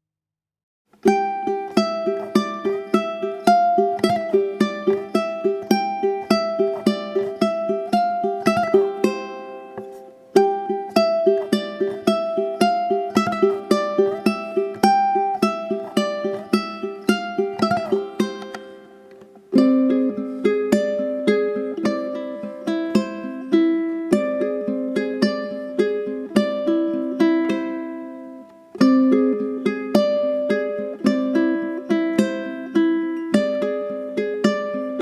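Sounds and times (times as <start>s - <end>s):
plucked string instrument music: 0.9s - 35.0s.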